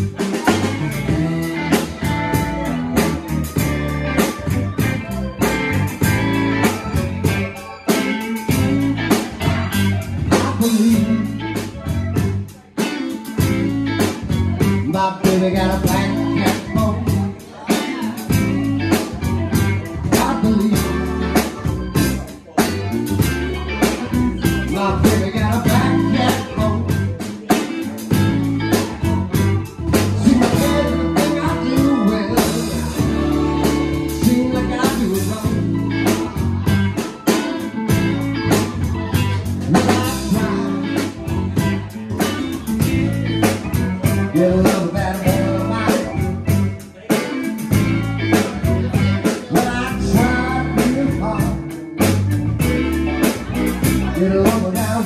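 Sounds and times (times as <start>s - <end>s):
bass guitar: 0.0s - 55.0s
drum kit playing: 0.0s - 55.0s
electric lead guitar: 0.0s - 55.0s.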